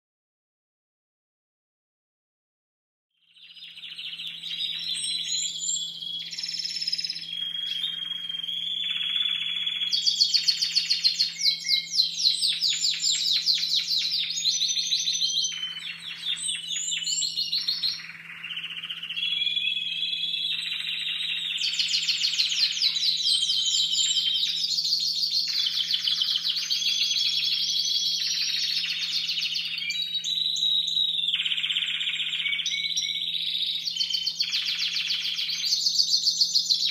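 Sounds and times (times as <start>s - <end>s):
canaries singing trills: 3.3s - 36.9s.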